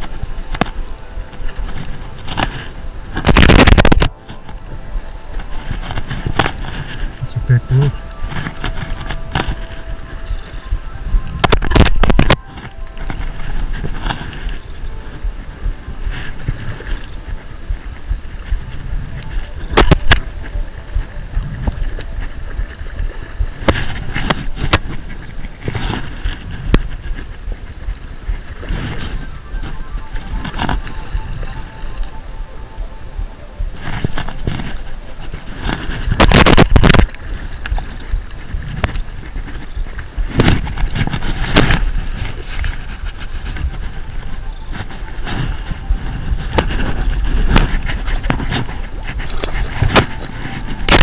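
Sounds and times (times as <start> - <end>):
fish thrashing and splashing: 0.0 - 51.0
wind buffeting microphone: 0.0 - 51.0.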